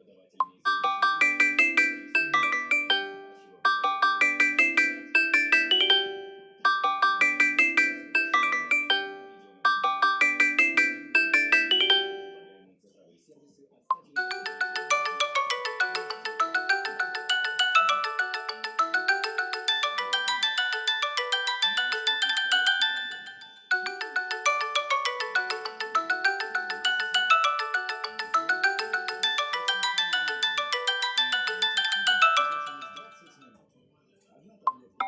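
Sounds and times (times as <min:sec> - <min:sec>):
phone ringtone chime melody: 0:00.7 - 0:12.6, 0:14.0 - 0:33.4.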